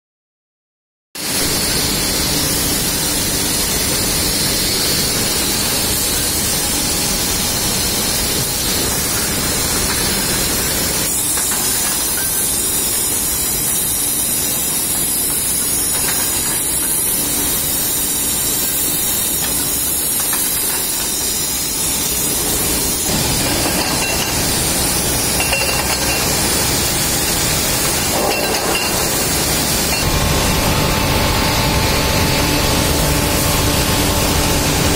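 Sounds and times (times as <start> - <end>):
industrial hiss and machinery noise: 1.2 - 34.9.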